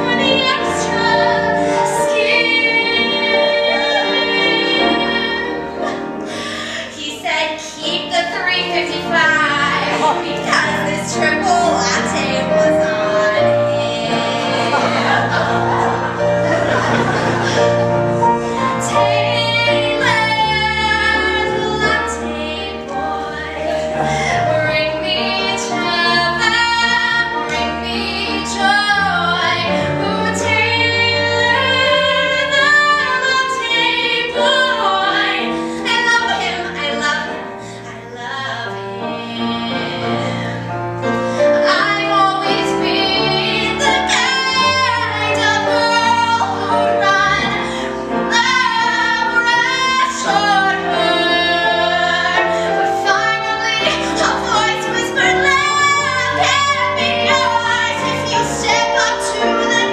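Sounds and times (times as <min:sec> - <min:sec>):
woman singing into microphone: 0:00.0 - 0:15.5, 0:18.6 - 0:40.4, 0:41.5 - 0:59.9
instrumental accompaniment: 0:00.0 - 0:59.9.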